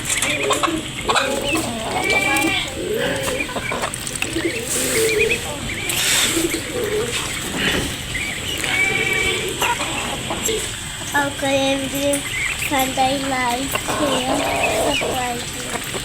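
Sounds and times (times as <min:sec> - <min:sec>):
pigeons cooing: 0:00.0 - 0:11.2, 0:12.7 - 0:16.0.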